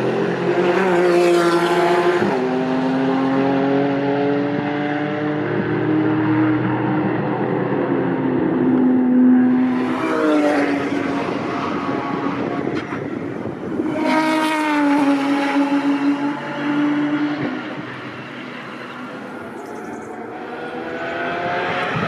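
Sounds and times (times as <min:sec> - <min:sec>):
racing car engines passing: 0:00.0 - 0:22.0.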